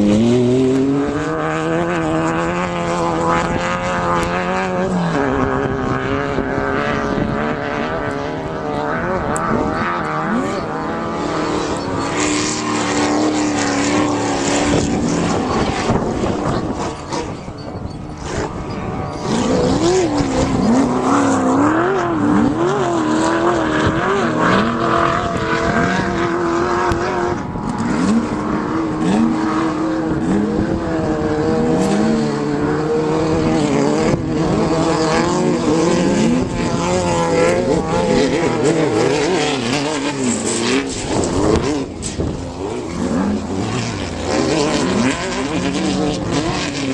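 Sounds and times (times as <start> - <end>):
steady rush of noise: 0.0 - 46.9
truck engine revving hard: 0.0 - 46.9.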